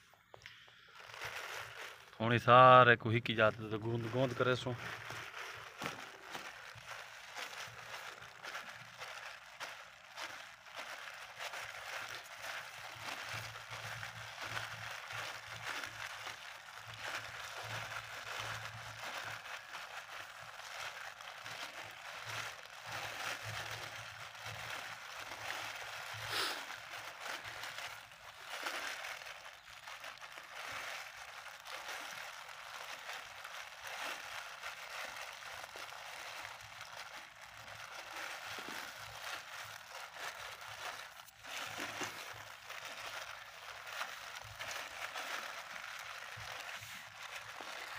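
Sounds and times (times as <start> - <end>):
plastic bag crinkling: 0.0 - 47.9.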